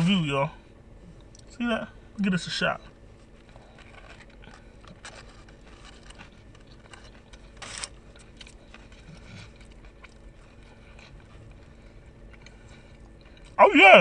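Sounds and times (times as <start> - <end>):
chewing crispy food: 0.0 - 2.0, 2.8 - 14.0.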